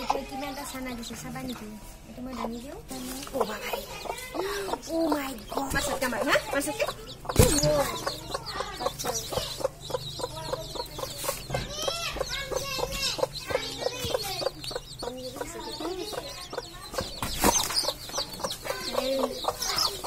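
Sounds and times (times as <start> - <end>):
chicks peeping: 0.0 - 20.0
hen clucking: 0.0 - 20.0.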